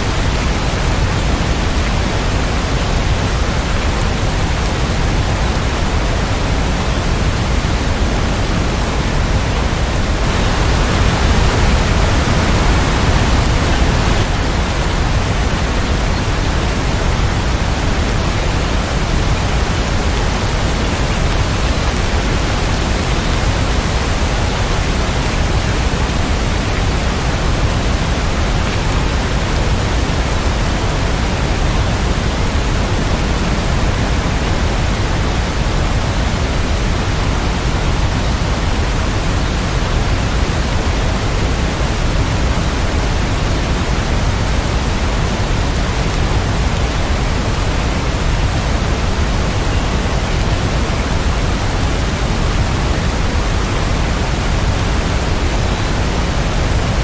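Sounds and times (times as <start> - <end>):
heavy rain hiss: 0.0 - 57.0.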